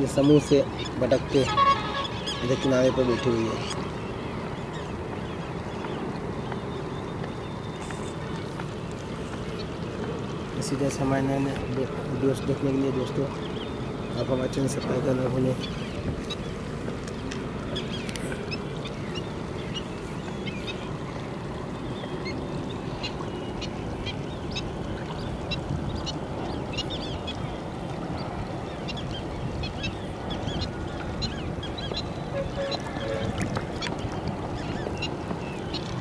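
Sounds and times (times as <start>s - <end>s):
water rushing: 0.0s - 36.0s
waterbirds calling: 0.0s - 36.0s
wind: 0.0s - 36.0s.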